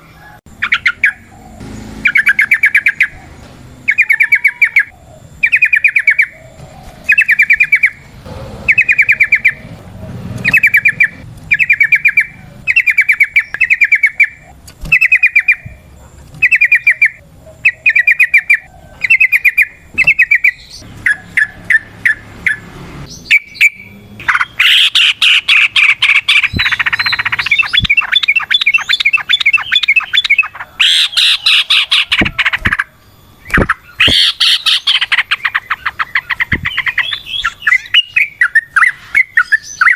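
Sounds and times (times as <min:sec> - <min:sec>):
bulbul singing trills: 0:00.0 - 0:39.9.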